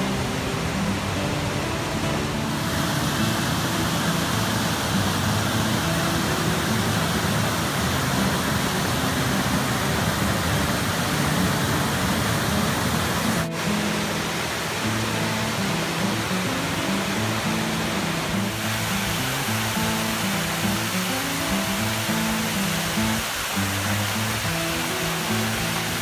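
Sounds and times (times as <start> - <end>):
music of low held notes: 0.0 - 20.9
water rushing over rocks: 0.0 - 26.0.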